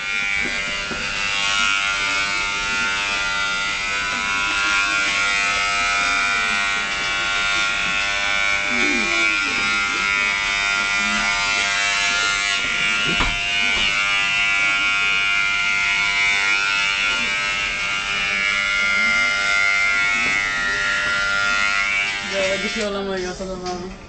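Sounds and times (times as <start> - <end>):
electric hair clippers buzzing: 0.0 - 23.2.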